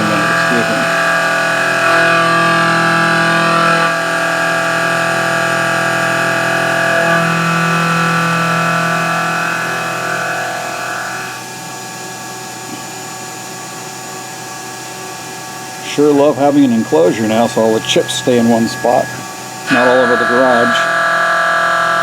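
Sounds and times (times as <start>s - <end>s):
milling machine cutting whine: 0.0s - 22.0s.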